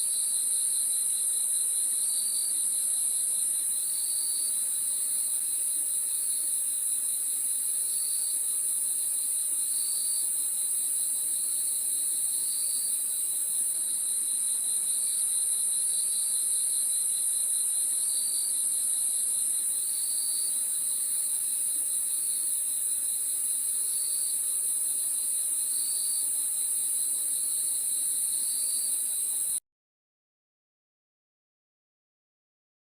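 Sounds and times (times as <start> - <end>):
crickets chirping chorus: 0.0 - 29.6.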